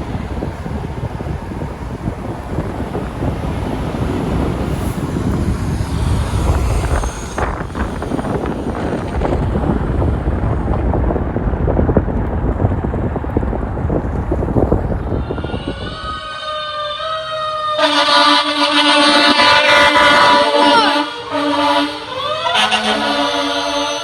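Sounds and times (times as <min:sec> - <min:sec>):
vehicle engine and road rumble: 0:00.0 - 0:24.0
wind buffeting microphone: 0:00.0 - 0:24.0.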